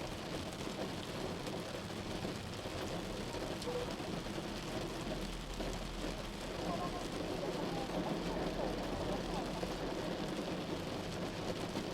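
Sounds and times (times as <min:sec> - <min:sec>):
rain hitting a car: 0:00.0 - 0:11.9.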